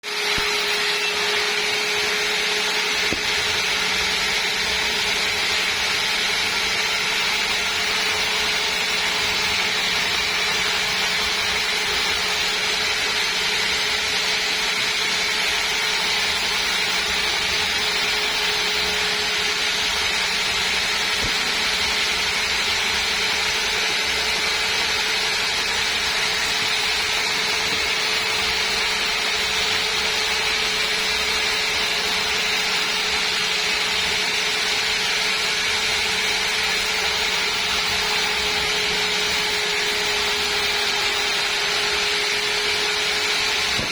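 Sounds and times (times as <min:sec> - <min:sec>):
sawmill saw running: 0:00.0 - 0:43.9.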